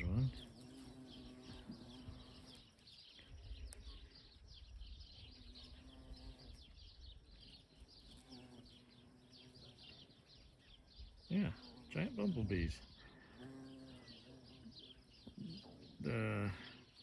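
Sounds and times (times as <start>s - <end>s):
bumblebee buzzing: 0.0s - 4.1s, 5.1s - 17.0s
birds chirping: 0.0s - 17.0s.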